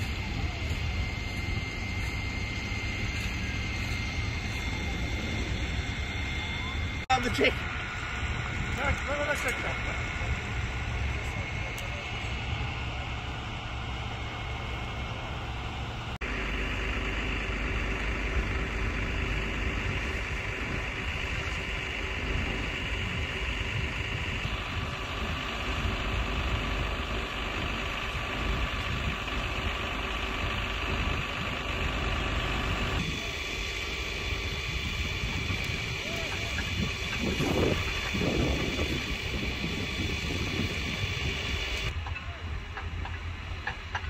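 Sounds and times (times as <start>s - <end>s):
diesel engines idling: 0.0s - 44.0s.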